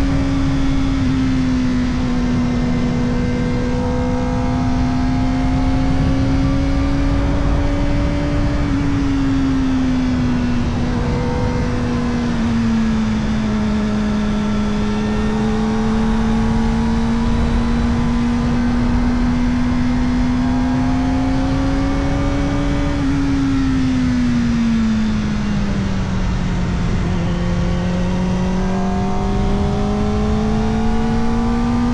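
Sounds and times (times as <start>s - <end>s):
motorcycle engine: 0.0s - 31.9s
wind noise: 0.0s - 31.9s.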